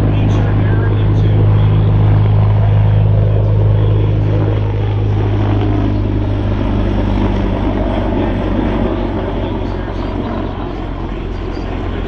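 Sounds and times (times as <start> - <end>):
military aircraft drone: 0.0 - 12.0.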